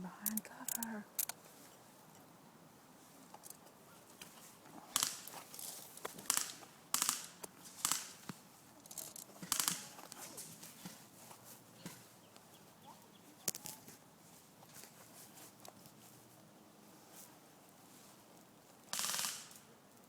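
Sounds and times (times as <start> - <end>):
rustling and crunching movement: 0.0 - 20.0.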